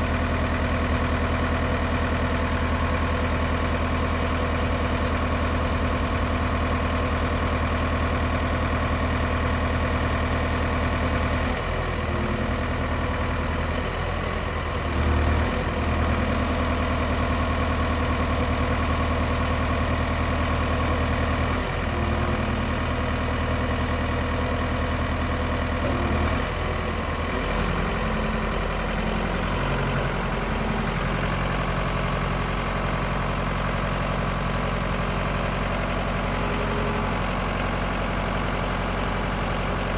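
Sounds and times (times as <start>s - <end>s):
forklift engine idling: 0.0s - 39.9s.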